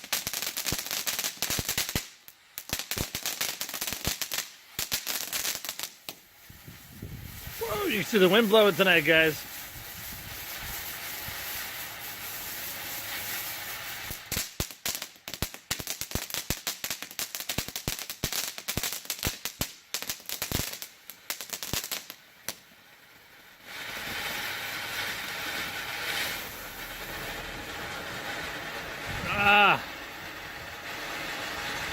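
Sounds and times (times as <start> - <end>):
firework spraying hiss: 0.0 - 22.1, 23.6 - 31.9
firework crackling pops: 0.0 - 31.9.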